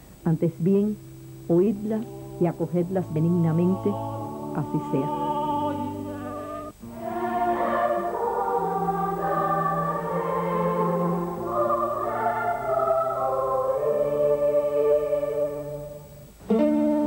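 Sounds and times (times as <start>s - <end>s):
choir singing held chords: 2.0s - 16.3s.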